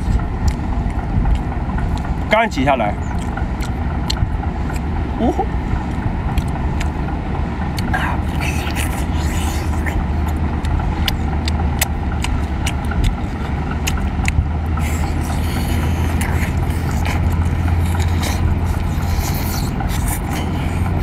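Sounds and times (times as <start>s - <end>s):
wet mouth clicks: 0.0s - 7.1s, 7.7s - 21.0s
chewing and slurping shellfish: 0.0s - 21.0s
low engine hum: 0.0s - 21.0s.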